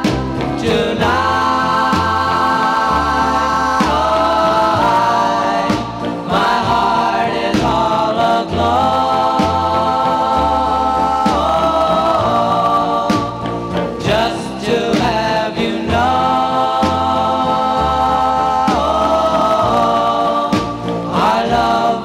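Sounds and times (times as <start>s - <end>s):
bass line: 0.0s - 22.0s
vocal group singing in harmony: 0.0s - 22.0s.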